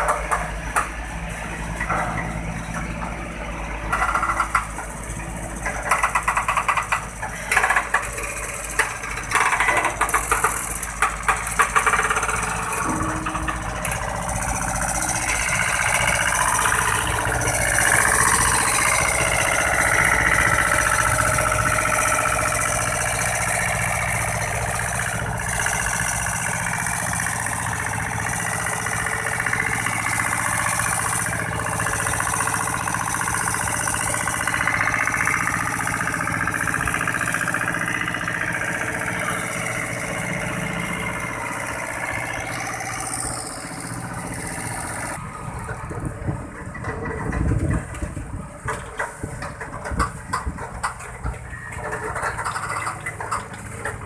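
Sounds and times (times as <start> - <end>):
heavy diesel truck engine: 0.0 - 54.0.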